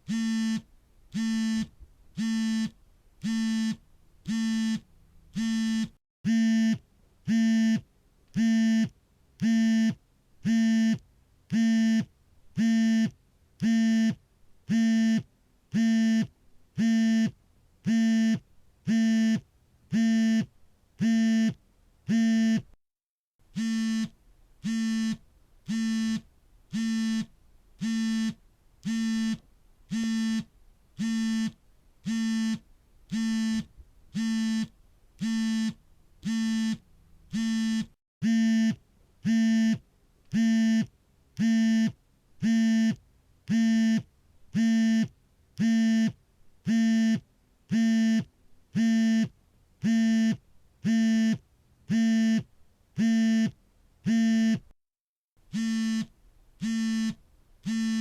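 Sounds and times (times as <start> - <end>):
smartphone vibrating: 0.0 - 7.8, 8.4 - 22.7, 23.5 - 53.5, 54.1 - 54.6, 55.5 - 58.0.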